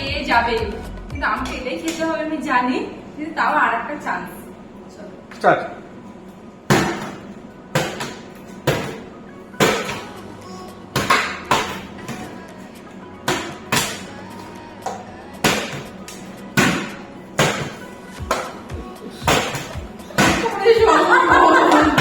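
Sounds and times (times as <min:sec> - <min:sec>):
faint background music: 0:00.0 - 0:22.0.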